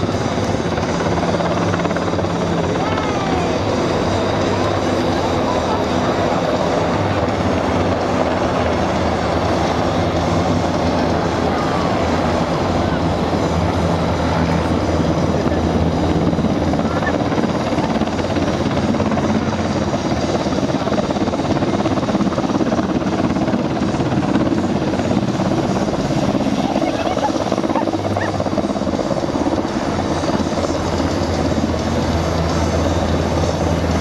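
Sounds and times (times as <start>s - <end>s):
helicopter hovering: 0.0s - 34.0s.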